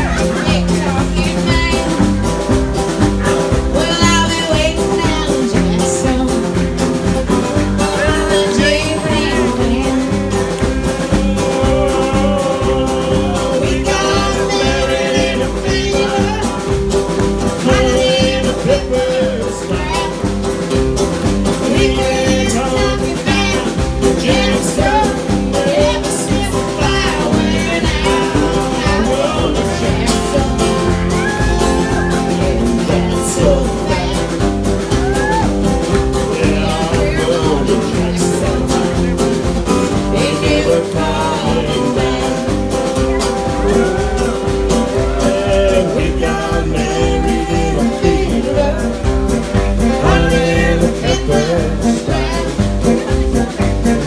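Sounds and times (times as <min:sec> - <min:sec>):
acoustic guitar: 0:00.0 - 0:54.0
drum kit beat: 0:00.0 - 0:54.0
person singing: 0:00.0 - 0:54.0
upright double bass: 0:00.0 - 0:54.0.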